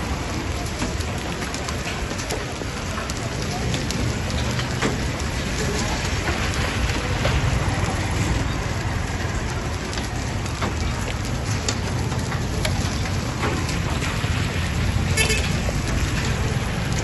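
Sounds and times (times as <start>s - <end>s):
hailstones ticking on pavement: 0.0s - 17.0s
rain hissing on road: 0.0s - 17.0s.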